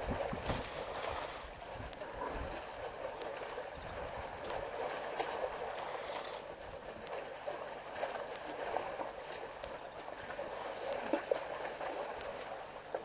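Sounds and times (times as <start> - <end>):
mud and water sloshing: 0.0 - 13.0
splashes: 0.0 - 13.0.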